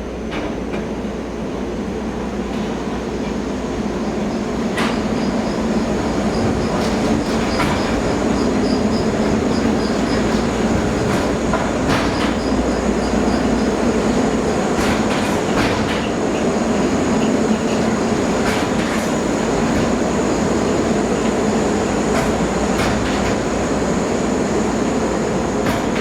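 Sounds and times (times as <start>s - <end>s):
tram droning: 0.0s - 26.0s
wheels clacking on track: 4.0s - 23.8s, 24.9s - 26.0s.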